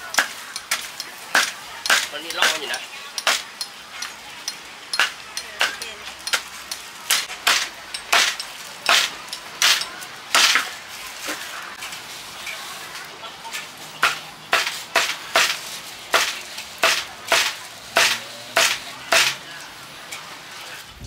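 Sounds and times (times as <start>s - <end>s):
kitchen utensils clinking: 0.0s - 20.8s.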